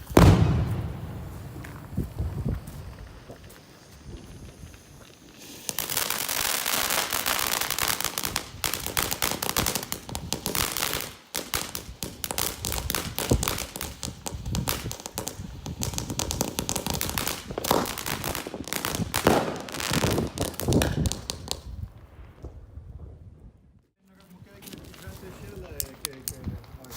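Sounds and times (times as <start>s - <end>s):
fireworks bangs: 0.0s - 22.6s
fireworks crackling and popping: 0.0s - 23.2s, 24.4s - 26.9s.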